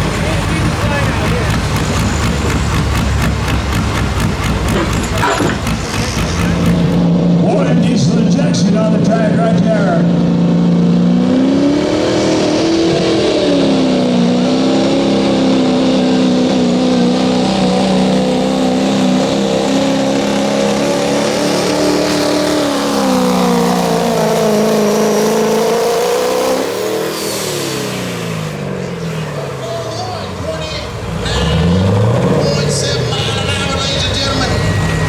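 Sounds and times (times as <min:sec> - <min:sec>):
diesel truck engine under load: 0:00.0 - 0:35.0.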